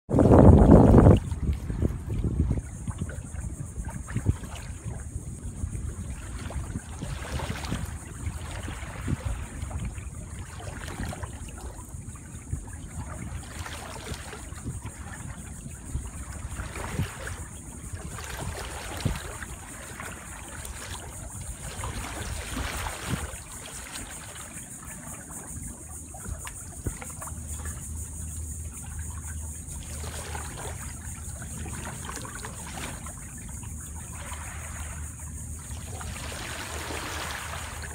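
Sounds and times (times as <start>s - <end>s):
paddle swishing through water: 0.1s - 37.9s
wind rumble on microphone: 0.1s - 37.9s.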